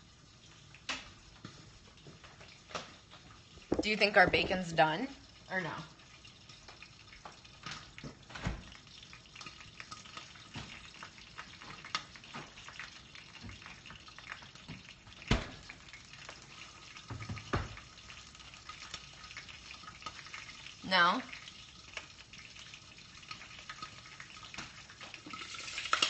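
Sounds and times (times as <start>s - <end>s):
bacon sizzling in a pan: 0.0s - 26.0s.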